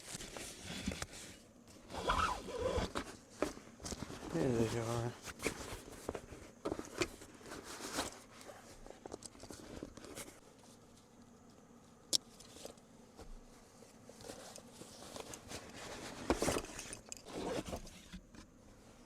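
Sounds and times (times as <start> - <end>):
rustling and scraping of gear: 0.0 - 11.6, 12.2 - 19.0.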